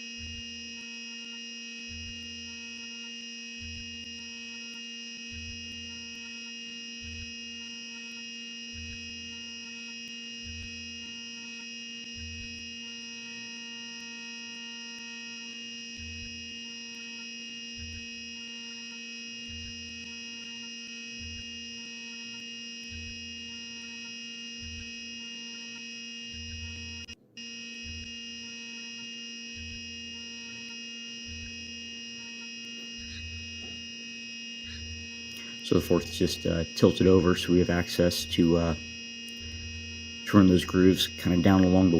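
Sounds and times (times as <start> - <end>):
low cutter throb: 0.0 - 41.9
milling machine whine: 0.0 - 41.9.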